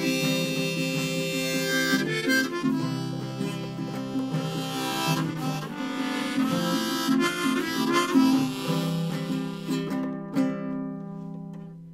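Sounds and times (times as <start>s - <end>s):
harmonica playing: 0.0s - 10.4s
strummed acoustic guitar: 0.0s - 11.9s.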